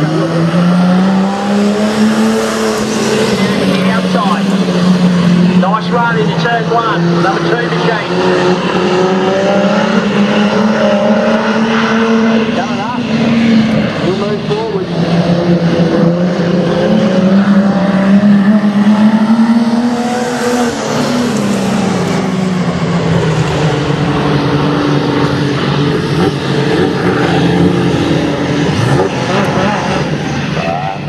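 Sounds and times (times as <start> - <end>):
race car engines running hard: 0.0 - 31.0.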